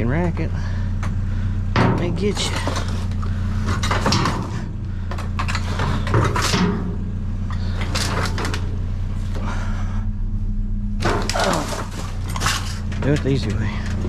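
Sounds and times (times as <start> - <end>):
steady low hum: 0.0 - 14.0
scrap metal clattering and scraping: 0.6 - 9.6, 11.0 - 14.0.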